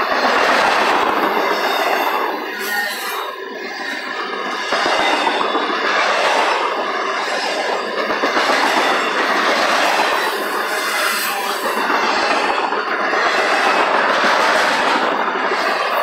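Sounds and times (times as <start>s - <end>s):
freight train wheels rolling: 0.0s - 16.0s.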